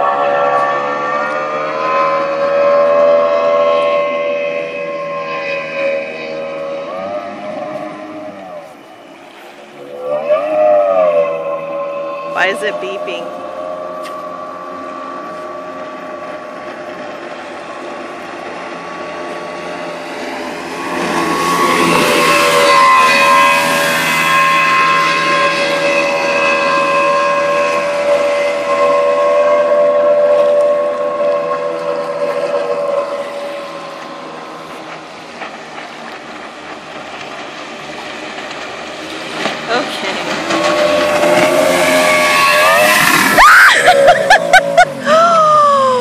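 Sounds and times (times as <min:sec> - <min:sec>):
boat engine whine: 0:00.0 - 0:46.0
rushing spray and wake: 0:00.0 - 0:46.0.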